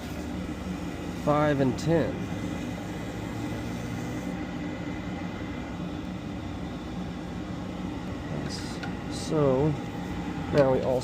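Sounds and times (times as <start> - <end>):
furnace fan and burner drone: 0.0 - 11.0.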